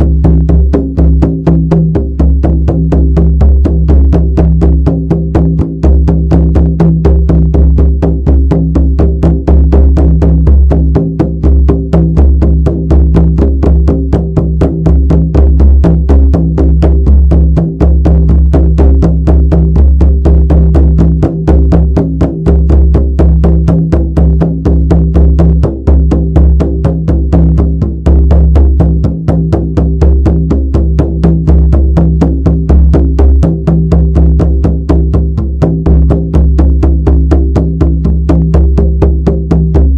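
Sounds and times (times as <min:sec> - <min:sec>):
frame drum beaten in fast rhythm: 0:00.0 - 0:39.9.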